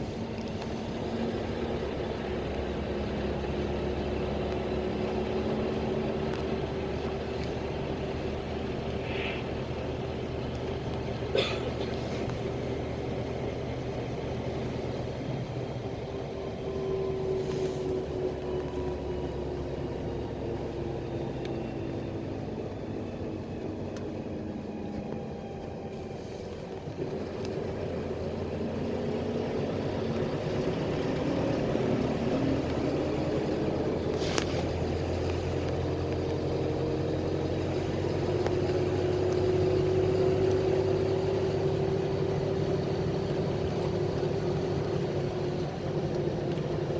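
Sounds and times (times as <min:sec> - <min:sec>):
bus engine running: 0:00.0 - 0:46.9
road rumble: 0:00.0 - 0:46.9.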